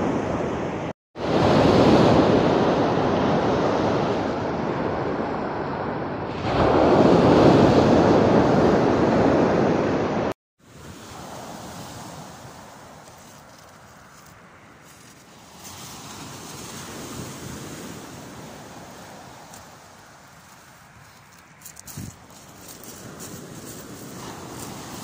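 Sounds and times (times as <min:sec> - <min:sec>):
sea surf breaking: 0:00.0 - 0:25.0.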